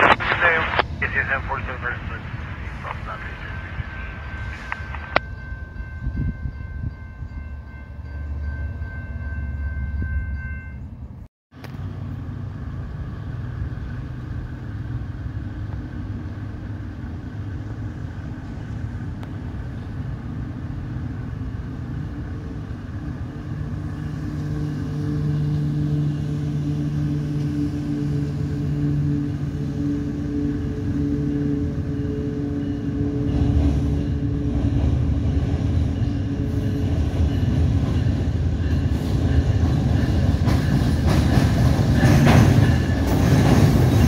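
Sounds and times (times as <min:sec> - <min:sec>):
approaching train droning rumble: 0:00.0 - 0:44.0
diesel trains rumbling: 0:00.0 - 0:44.0.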